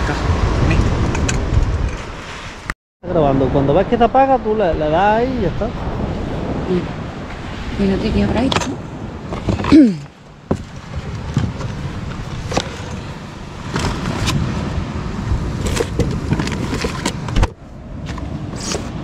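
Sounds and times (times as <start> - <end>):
low rumble and rush: 0.0 - 19.0.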